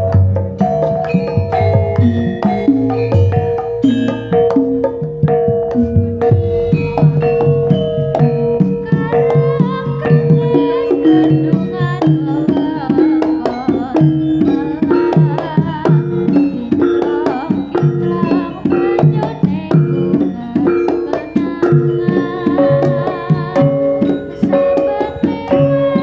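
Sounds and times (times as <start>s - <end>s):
hand drums beating: 0.0s - 26.0s
struck metal percussion: 0.0s - 26.0s
wavering high melody: 0.0s - 26.0s.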